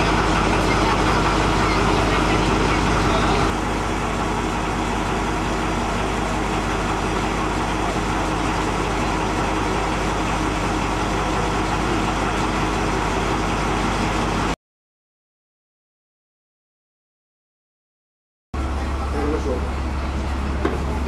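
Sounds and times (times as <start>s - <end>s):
diesel locomotive drone: 0.0s - 14.6s, 18.6s - 21.0s
train running noise: 0.0s - 14.6s, 18.6s - 21.0s.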